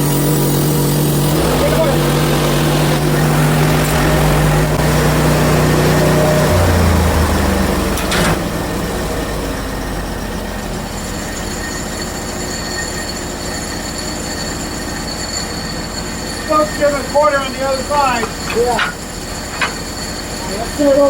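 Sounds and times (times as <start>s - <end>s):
high steady whine: 0.0s - 8.4s, 9.0s - 21.0s
bandsaw mill engine running: 0.0s - 21.0s.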